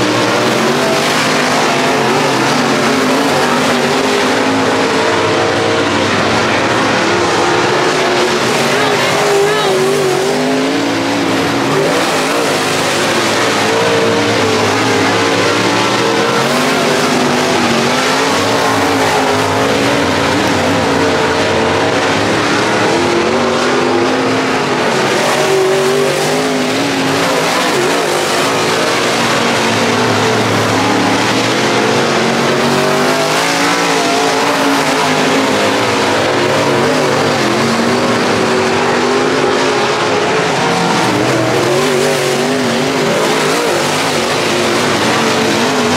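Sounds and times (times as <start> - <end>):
race car engine running hard: 0.0 - 45.9.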